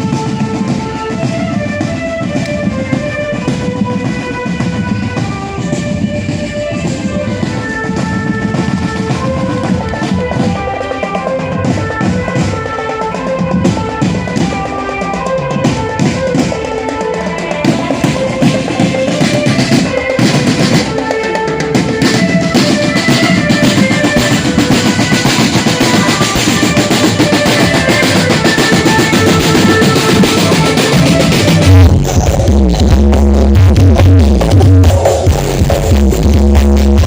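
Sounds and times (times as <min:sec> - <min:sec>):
high held melody notes: 0:00.0 - 0:37.0
marching drum band: 0:00.0 - 0:37.0.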